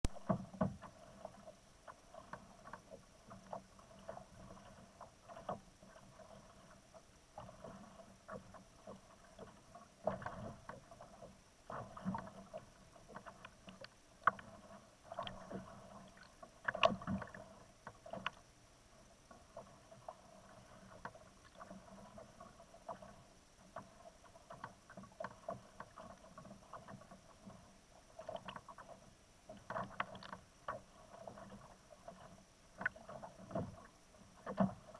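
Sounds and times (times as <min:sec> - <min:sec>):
small waves lapping against hull: 0:00.0 - 0:34.9
light knocks and splashes: 0:00.1 - 0:18.4, 0:19.5 - 0:34.9.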